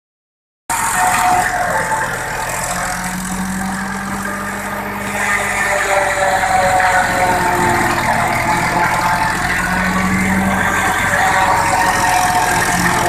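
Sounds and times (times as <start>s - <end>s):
engine running steadily: 0.7s - 13.0s.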